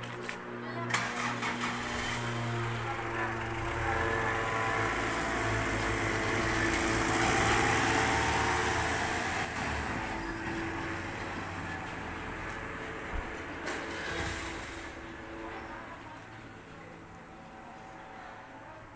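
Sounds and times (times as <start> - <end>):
truck engine pulling away: 0.9 - 18.7.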